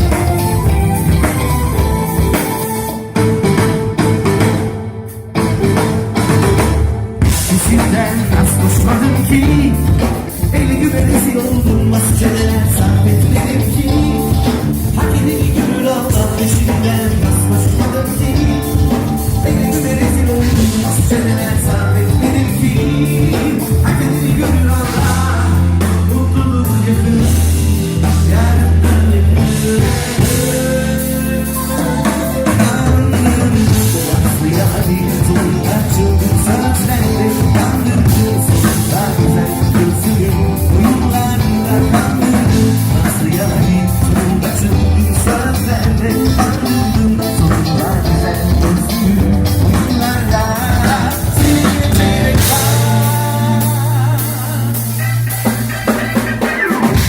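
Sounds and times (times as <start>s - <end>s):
person singing: 0.0s - 6.0s, 7.2s - 57.0s
live band playing: 0.0s - 57.0s.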